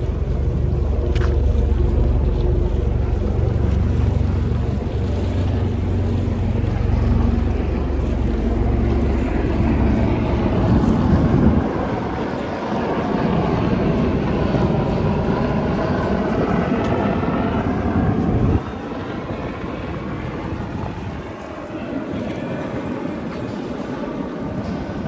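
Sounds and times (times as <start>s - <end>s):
aircraft engine overhead: 0.0s - 25.0s
wind on microphone: 0.0s - 25.0s.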